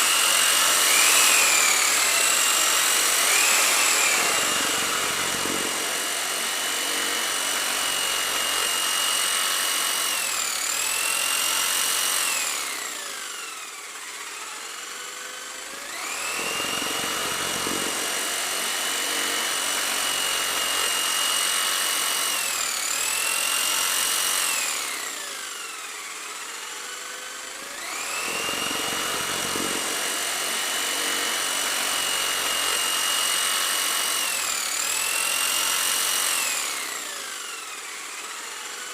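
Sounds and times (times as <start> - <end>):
small electric motor whining: 0.0 - 38.9.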